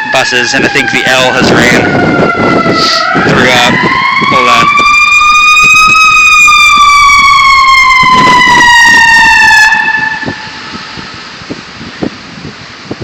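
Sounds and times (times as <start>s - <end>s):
emergency siren wailing: 0.0s - 12.4s.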